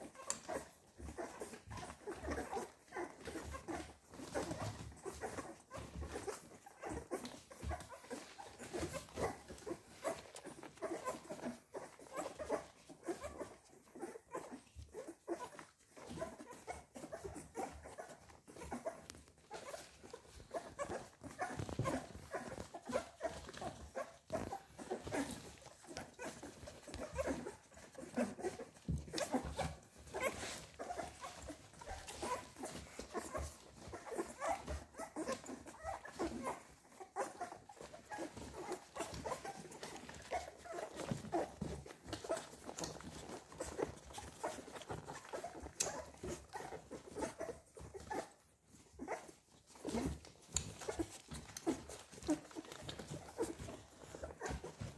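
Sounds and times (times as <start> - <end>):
puppies squeaking and whimpering: 0.0 - 54.9
puppies suckling: 0.0 - 54.9.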